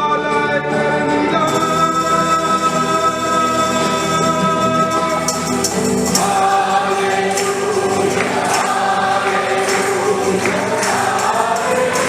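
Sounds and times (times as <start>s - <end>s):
choir singing a hymn: 0.0s - 12.0s
tambourine shakes: 1.5s - 12.0s.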